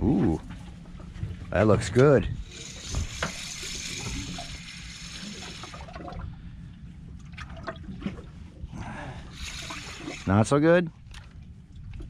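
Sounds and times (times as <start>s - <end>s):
low steady rumble: 0.0s - 12.0s
water trickling and splashing: 1.6s - 8.6s, 9.3s - 12.0s.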